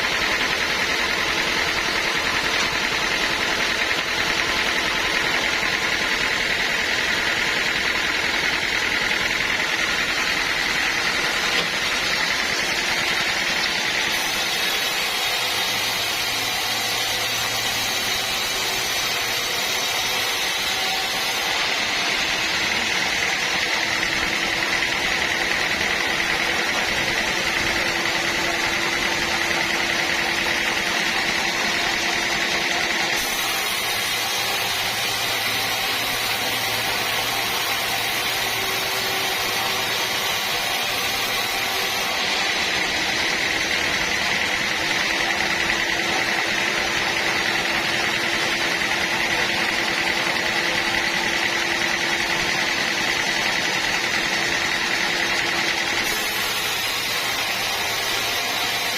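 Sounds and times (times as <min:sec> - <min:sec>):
sawmill machinery whining: 0:00.0 - 0:58.9.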